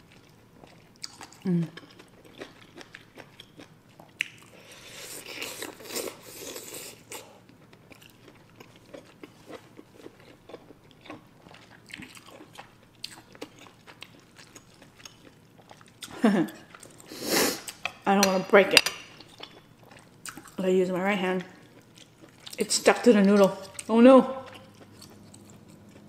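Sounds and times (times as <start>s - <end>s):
wet chewing with mouth clicks: 0.0s - 18.0s, 19.1s - 20.7s, 21.3s - 26.0s.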